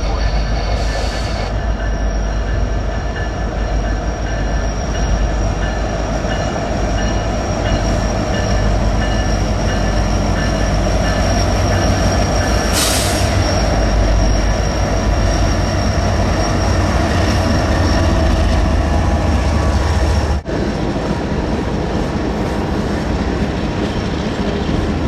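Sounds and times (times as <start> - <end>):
high-pitched squeal: 0.0 - 20.4
train wheels rumbling on rail: 0.0 - 25.0.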